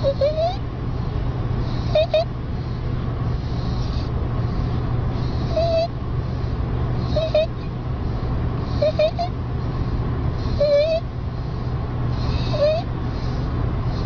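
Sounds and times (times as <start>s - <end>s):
high-pitched squeaky breathing: 0.0s - 14.0s
steady low hum: 0.0s - 14.0s.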